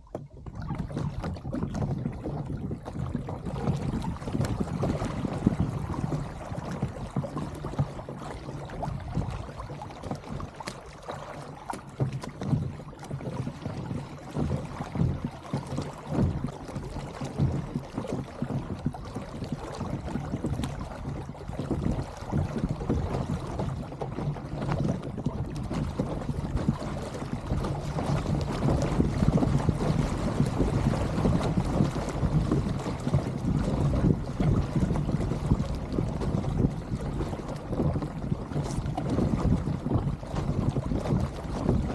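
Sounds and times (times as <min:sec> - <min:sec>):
water splashing against hull: 0:00.0 - 0:41.9.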